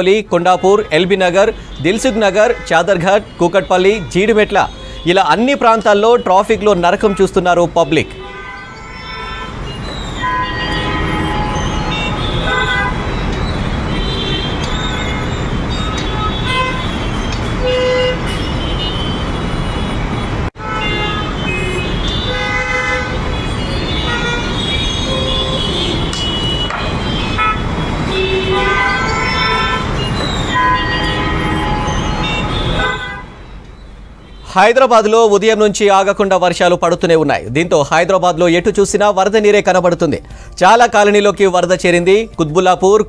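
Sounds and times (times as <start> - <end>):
car horns honking: 0.0 - 36.4.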